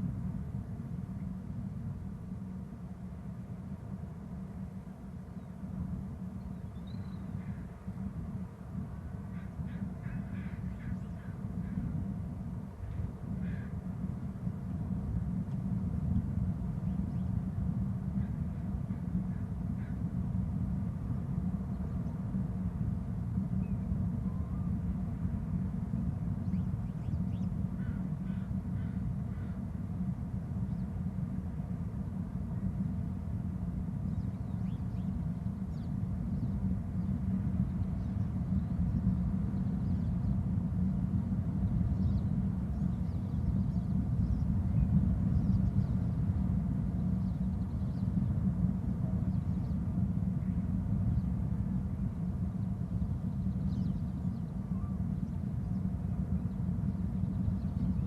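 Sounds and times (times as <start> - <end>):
low outdoor rumble: 0.0 - 58.0.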